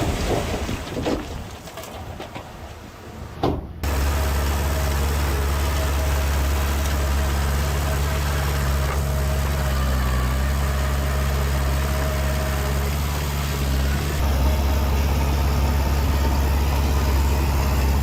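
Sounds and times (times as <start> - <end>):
heavy diesel engine droning: 3.1 - 18.0.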